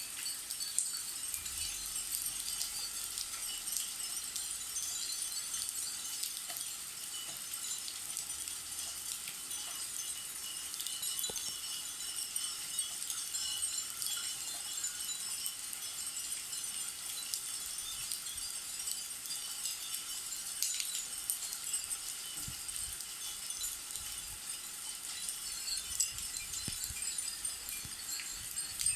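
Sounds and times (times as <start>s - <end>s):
rain hissing: 0.0s - 28.9s
wind chimes tinkling: 0.0s - 28.9s.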